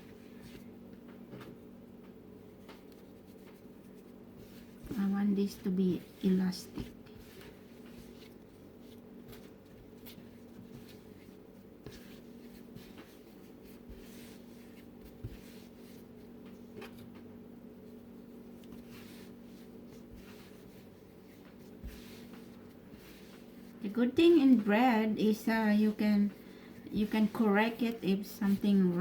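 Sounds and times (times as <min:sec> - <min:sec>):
hands kneading dough: 0:00.0 - 0:29.0
steady hum: 0:00.0 - 0:29.0.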